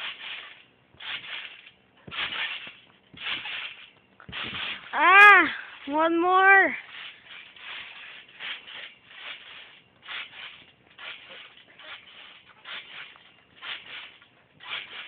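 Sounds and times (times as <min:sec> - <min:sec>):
trampoline springs rasping: 0:00.0 - 0:15.0.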